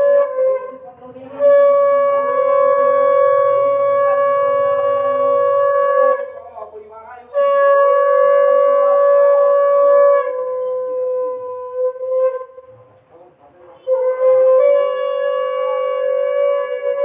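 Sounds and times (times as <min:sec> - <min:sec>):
conch shell blasts: 0:00.0 - 0:06.4, 0:07.3 - 0:12.8, 0:13.8 - 0:17.0.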